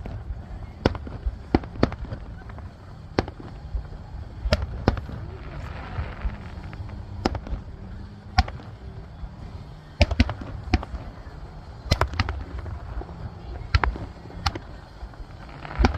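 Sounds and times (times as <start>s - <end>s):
fireworks bangs: 0.0s - 15.9s.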